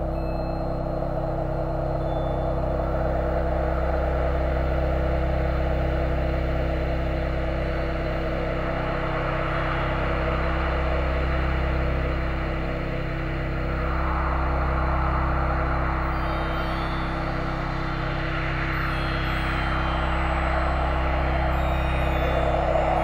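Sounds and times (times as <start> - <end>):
low droning film score: 0.0 - 23.0.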